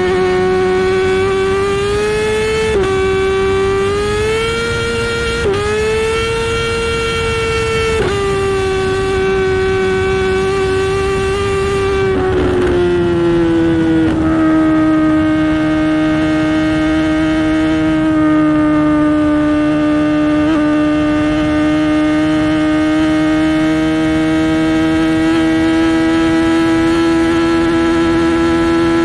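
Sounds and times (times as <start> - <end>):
motorcycle engine at high revs: 0.0 - 29.0.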